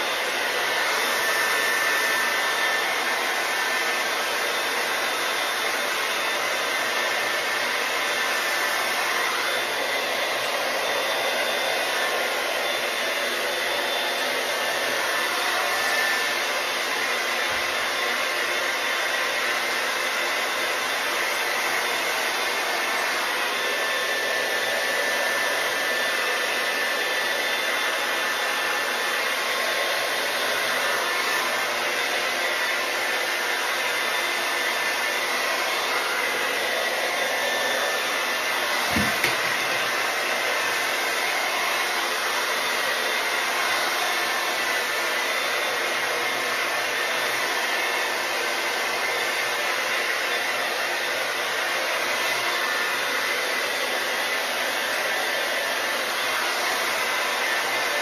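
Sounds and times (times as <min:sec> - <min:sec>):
hot-air brush blowing air: 0:00.0 - 0:58.0.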